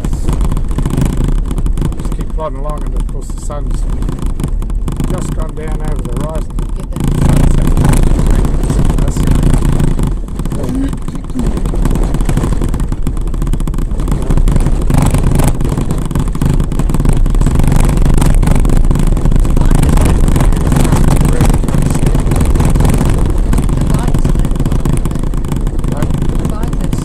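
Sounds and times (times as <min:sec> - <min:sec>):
vehicle rumbling on corrugated track: 0:00.0 - 0:27.0.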